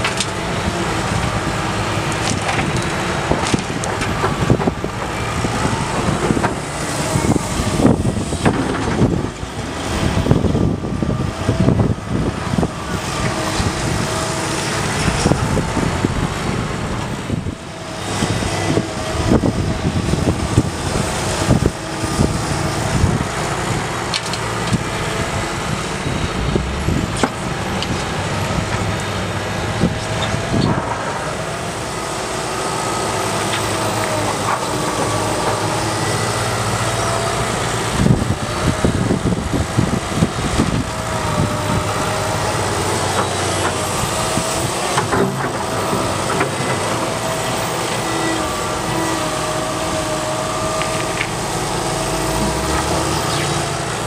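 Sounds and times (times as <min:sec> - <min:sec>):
excavator engine and hydraulics: 0:00.0 - 0:54.0
hydraulic whine: 0:00.0 - 0:54.0.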